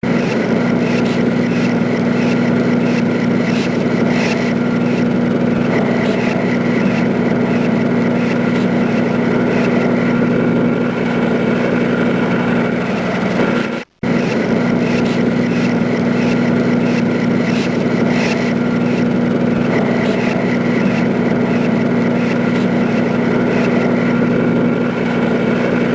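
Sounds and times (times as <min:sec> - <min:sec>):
factory machinery hum: 0:00.0 - 0:25.9.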